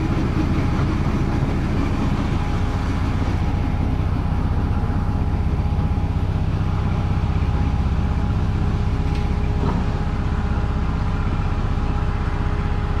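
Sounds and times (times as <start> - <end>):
small locomotive engine running: 0.0 - 13.0.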